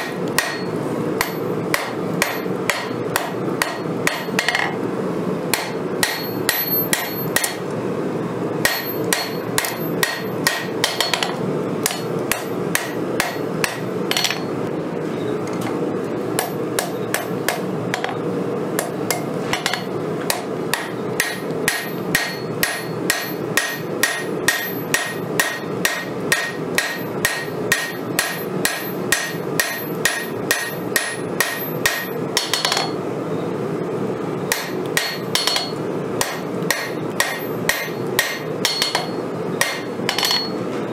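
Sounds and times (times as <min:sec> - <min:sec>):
hammer striking steel on anvil: 0:00.0 - 0:04.7, 0:05.5 - 0:07.6, 0:08.6 - 0:14.5, 0:16.4 - 0:18.2, 0:18.8 - 0:33.0, 0:34.5 - 0:40.6.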